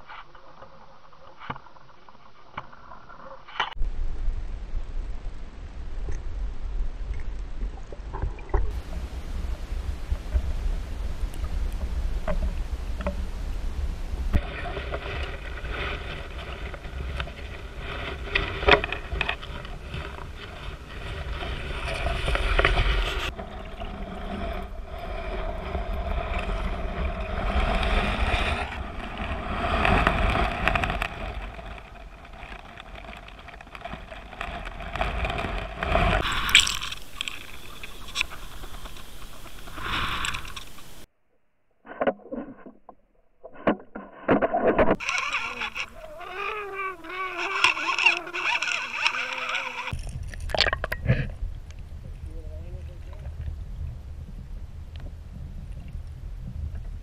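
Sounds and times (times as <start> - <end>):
muffled underwater rushing water: 0.0 - 41.1, 43.6 - 57.0.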